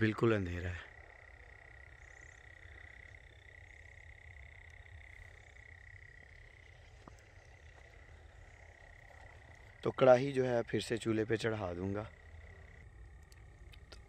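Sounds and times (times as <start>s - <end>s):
chorus of calling animals: 0.0s - 14.0s.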